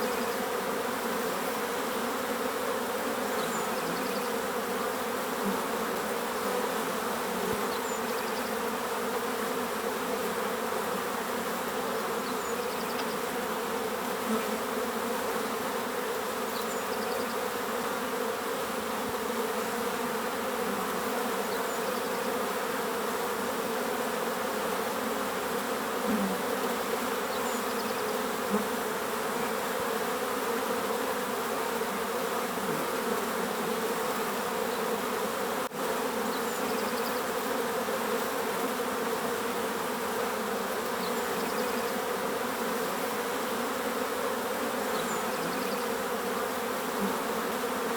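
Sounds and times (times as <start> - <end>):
bees buzzing: 0.0 - 47.9.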